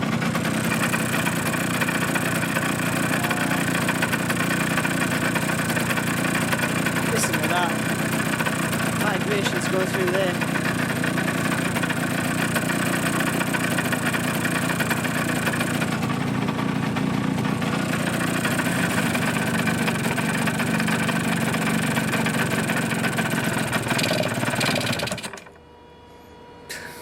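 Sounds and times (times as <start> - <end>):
two-stroke engine idling with piston slap: 0.0 - 25.6.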